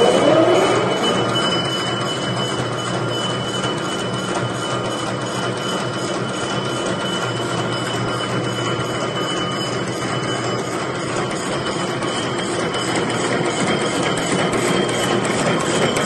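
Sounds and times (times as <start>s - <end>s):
high mechanical whine: 0.0s - 16.0s
machine clattering: 0.0s - 16.0s.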